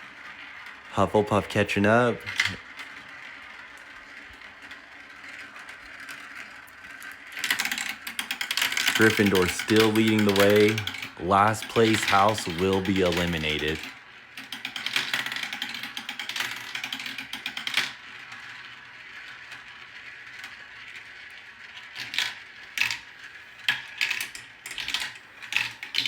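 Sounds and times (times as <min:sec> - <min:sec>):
marbles rolling down a track: 0:00.0 - 0:26.0.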